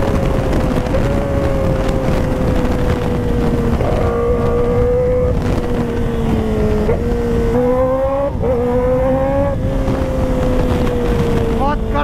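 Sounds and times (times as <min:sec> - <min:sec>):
motorcycle engine at speed: 0:00.0 - 0:12.0
wind rush: 0:00.0 - 0:12.0.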